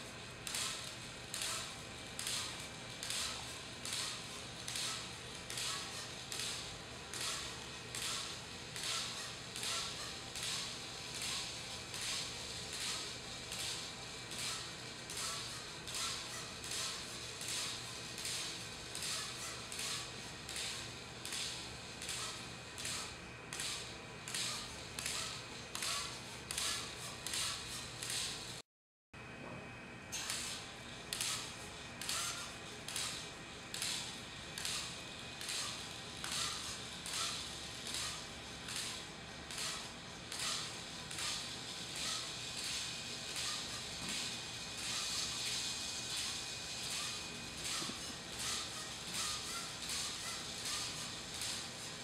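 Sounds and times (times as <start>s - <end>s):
robot propeller whirring: 0.4s - 28.6s, 30.2s - 52.0s.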